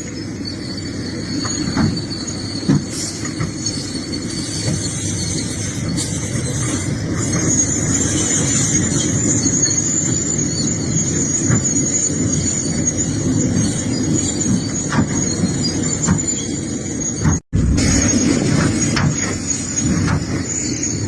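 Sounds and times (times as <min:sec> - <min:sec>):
high-pitched squeal: 0:00.0 - 0:21.0.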